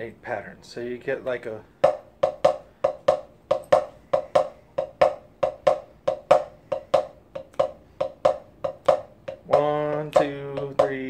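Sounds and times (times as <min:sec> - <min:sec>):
drumsticks tapping practice pad: 0:01.8 - 0:11.0.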